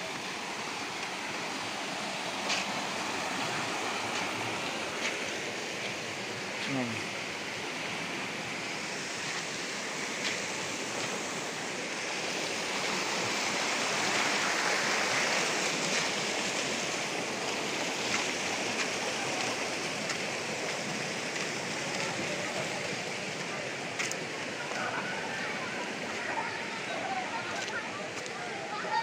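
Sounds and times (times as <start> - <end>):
water rushing through rocks: 0.0 - 29.0.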